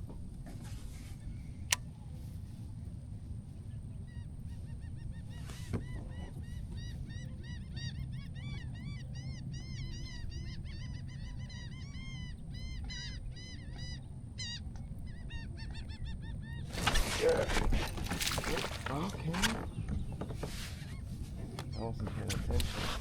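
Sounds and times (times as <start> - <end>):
flock of birds squeaking: 4.0 - 23.0.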